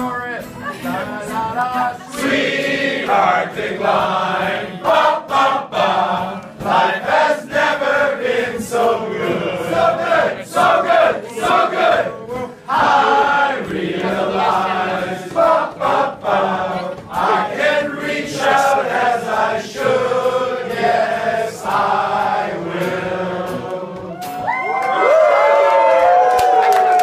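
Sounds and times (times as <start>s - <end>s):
crowd singing in unison: 0.6s - 24.6s.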